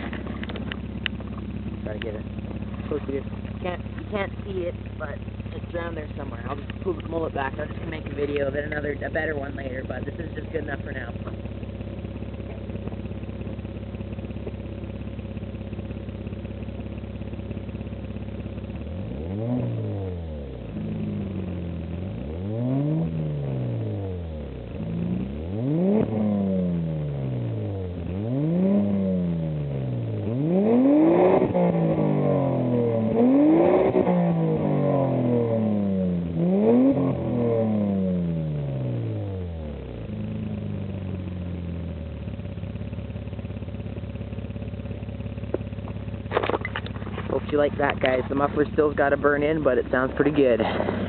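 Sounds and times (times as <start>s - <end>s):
car engine idling: 0.0s - 51.0s
car engine revving in blips: 0.0s - 51.0s.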